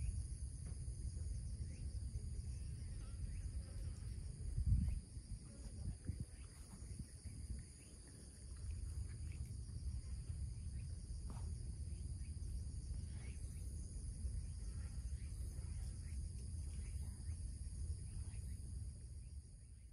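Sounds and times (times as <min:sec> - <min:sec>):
insects droning: 0:00.0 - 0:19.9.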